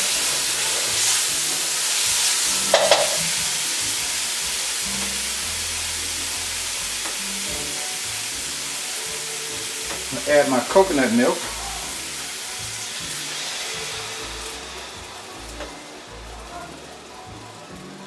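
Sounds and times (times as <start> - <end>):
spices sizzling in hot oil: 0.0 - 18.0
utensil sound: 0.0 - 18.0.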